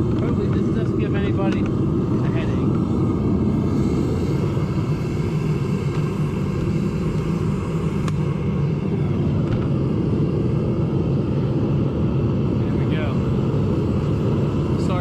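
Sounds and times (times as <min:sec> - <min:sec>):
propane burner rushing: 0:00.0 - 0:15.0.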